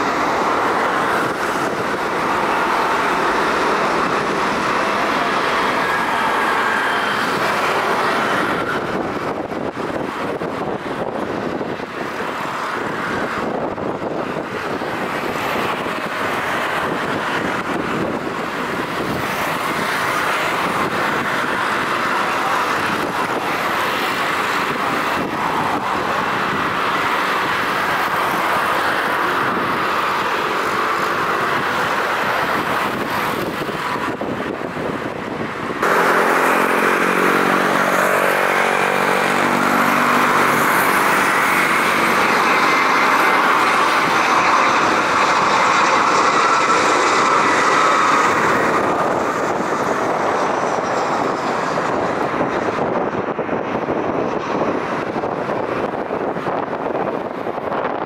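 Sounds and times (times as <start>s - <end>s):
jet engine rushing: 0.0s - 58.0s
jet engine whine falling in pitch: 0.0s - 58.0s.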